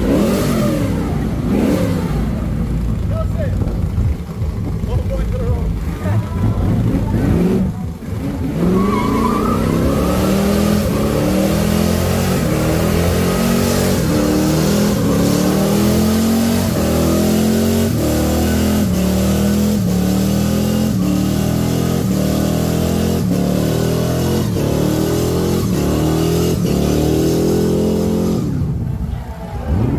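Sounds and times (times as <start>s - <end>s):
car engine revving hard: 0.0s - 3.0s, 5.6s - 28.9s.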